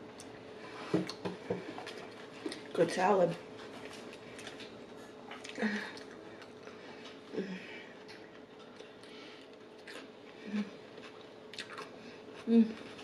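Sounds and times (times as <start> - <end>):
chewing: 1.1 - 2.8, 3.5 - 7.3, 7.9 - 13.0.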